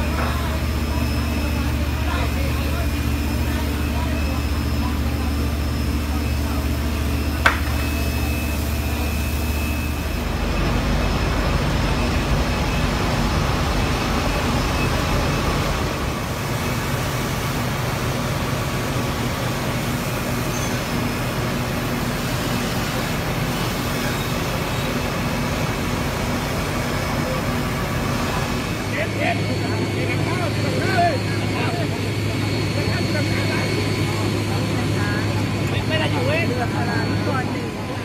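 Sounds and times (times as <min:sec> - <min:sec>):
engine running: 0:00.0 - 0:38.0.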